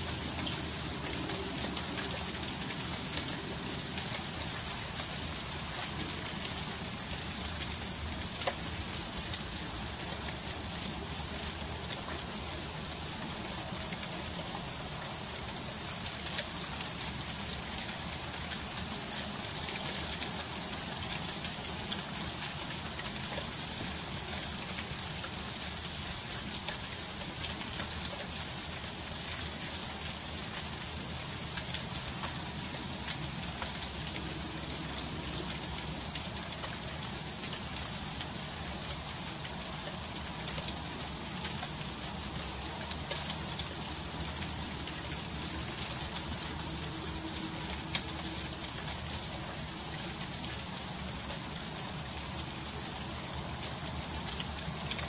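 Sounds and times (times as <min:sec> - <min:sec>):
freezing rain ticking on ice: 0:00.1 - 0:55.0.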